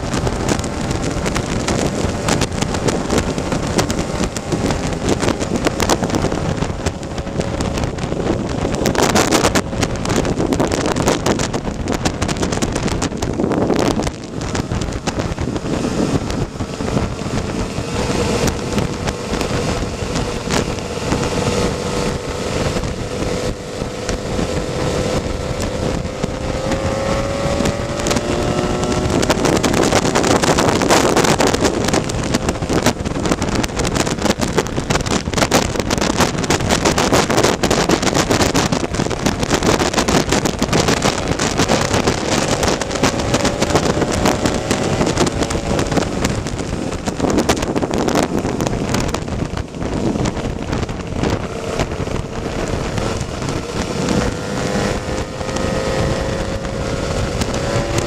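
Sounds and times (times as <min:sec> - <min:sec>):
scooter engine running: 0:00.0 - 0:58.0
wind buffeting microphone: 0:00.0 - 0:58.0.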